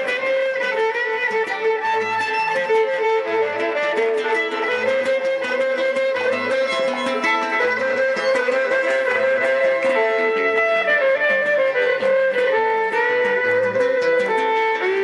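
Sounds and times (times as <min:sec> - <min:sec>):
rhythmic guitar accompaniment: 0:00.0 - 0:15.0
violin melody: 0:00.0 - 0:15.0.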